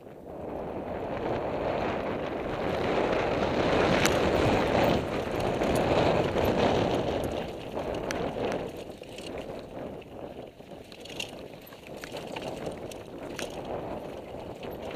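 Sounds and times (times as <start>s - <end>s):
bike tyres rolling over gravel: 0.0s - 14.9s
wind rushing over microphone: 0.0s - 14.9s
bike clicks and rattles: 1.2s - 14.9s.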